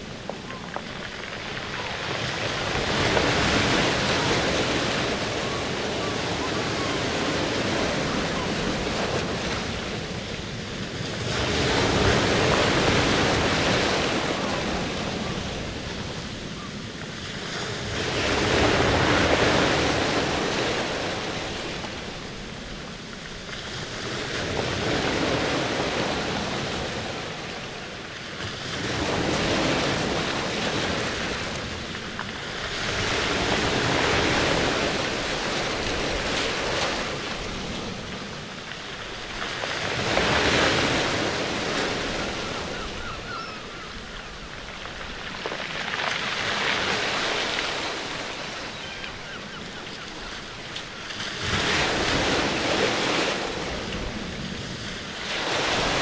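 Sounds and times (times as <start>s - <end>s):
rushing water: 0.0s - 23.6s, 24.6s - 56.0s.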